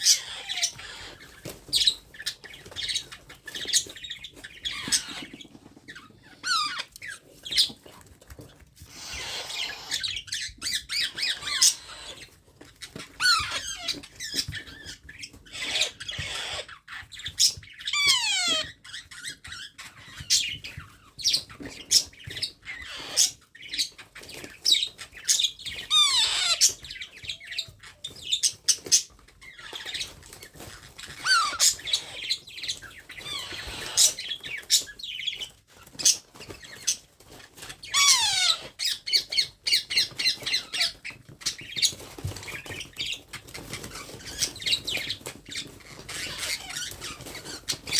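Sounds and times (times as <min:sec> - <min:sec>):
parrots squawking: 0:00.0 - 0:07.8, 0:08.9 - 0:20.8, 0:21.7 - 0:36.9, 0:37.6 - 0:43.2, 0:43.8 - 0:47.9.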